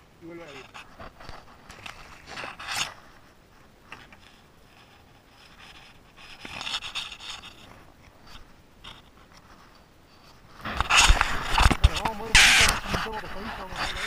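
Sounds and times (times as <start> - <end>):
faint rustling and scraping: 0.0 - 14.0.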